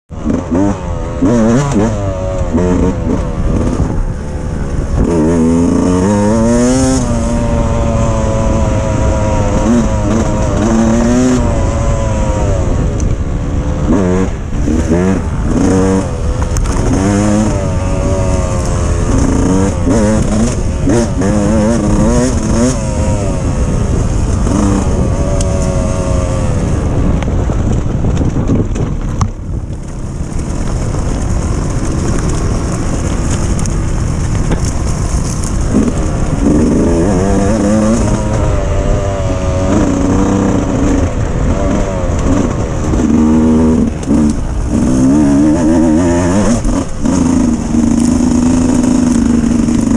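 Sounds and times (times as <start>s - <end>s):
dirt bike engine revving: 0.1s - 27.8s, 30.0s - 49.9s.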